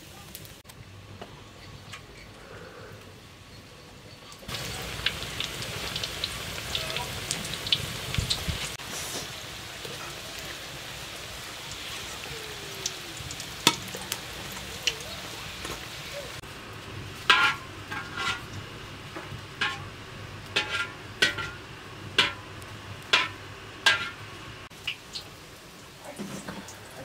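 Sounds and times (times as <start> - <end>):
dough frying in hot oil: 3.6 - 27.0.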